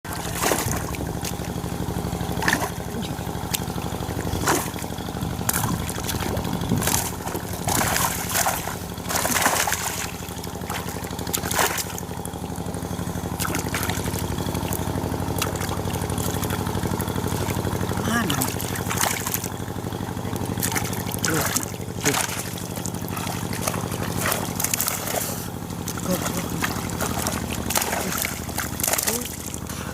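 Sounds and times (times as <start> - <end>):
small engine running: 0.1 - 29.9
water splashing and sloshing: 0.1 - 29.9.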